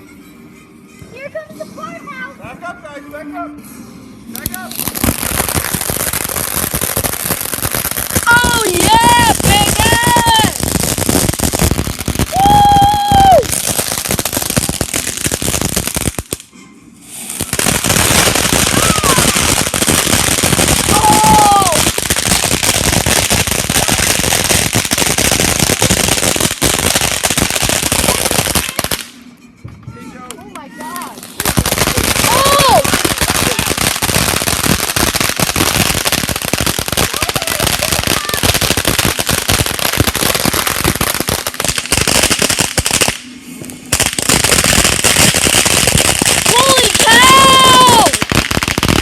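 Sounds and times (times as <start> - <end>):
fireworks popping and crackling: 4.2 - 49.0.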